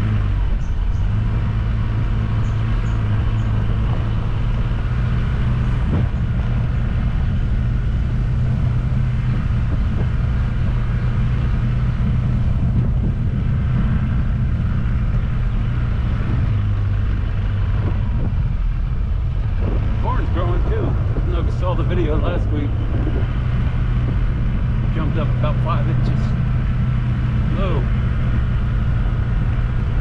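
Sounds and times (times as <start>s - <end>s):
road noise: 0.0s - 30.0s
vehicle engine running: 0.0s - 30.0s.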